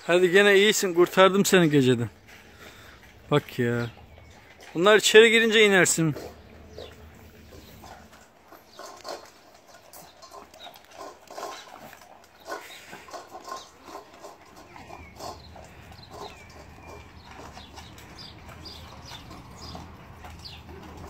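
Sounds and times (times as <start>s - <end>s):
puppies chomping food: 0.0s - 21.0s
puppies snuffling: 2.1s - 21.0s.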